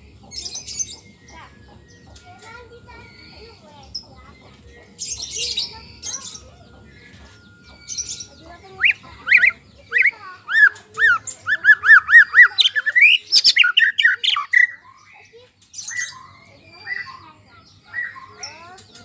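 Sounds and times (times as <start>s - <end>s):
bird singing whistled notes: 0.0s - 19.0s.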